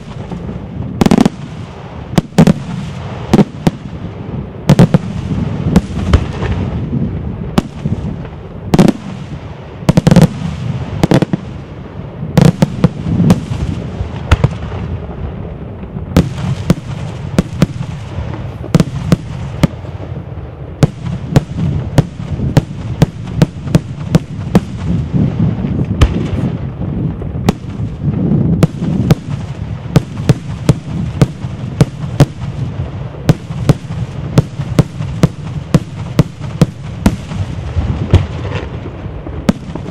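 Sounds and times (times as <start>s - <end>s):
fireworks bangs: 0.0s - 39.9s
rumble of detonations: 0.0s - 39.9s.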